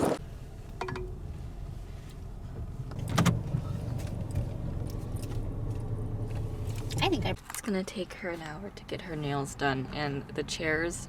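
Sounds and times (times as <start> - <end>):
low hum inside a car: 0.1 - 10.9.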